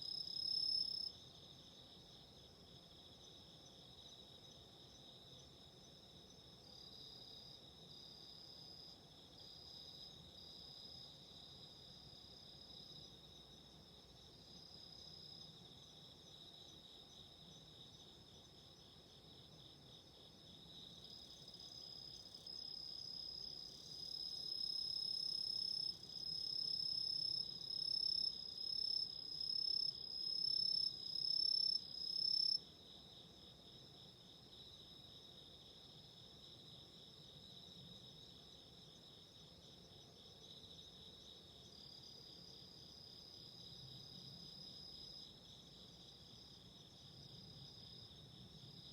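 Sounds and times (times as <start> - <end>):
louder insect song: 0.0 - 48.9.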